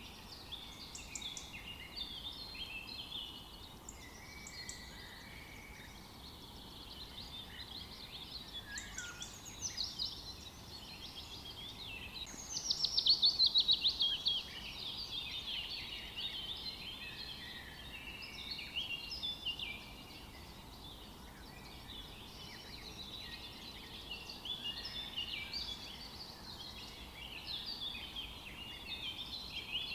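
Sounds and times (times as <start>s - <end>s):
songbirds chorus: 0.0s - 29.9s.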